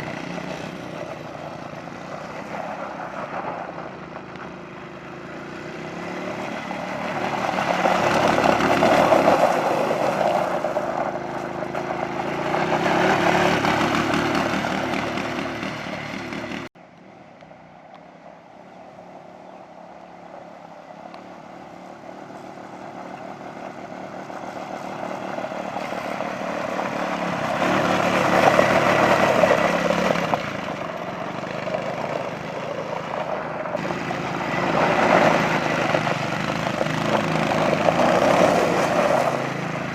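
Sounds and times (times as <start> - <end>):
atv engines revving: 0.0 - 16.8, 19.1 - 39.9.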